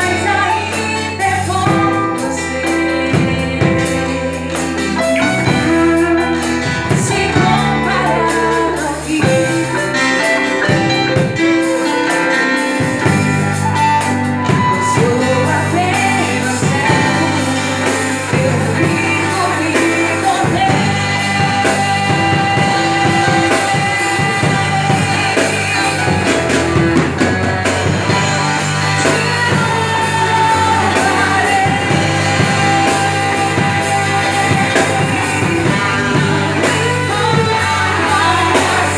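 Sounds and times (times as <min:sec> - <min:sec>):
band playing steady beat: 0:00.0 - 0:38.9
person singing melody: 0:00.0 - 0:38.9
worship group singing: 0:00.0 - 0:38.9.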